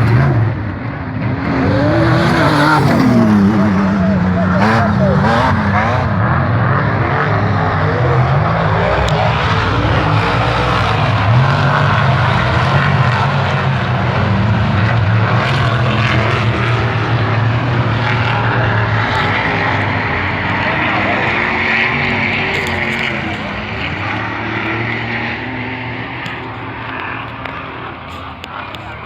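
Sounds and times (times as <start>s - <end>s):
race vehicle engine at full throttle: 0.0s - 29.0s.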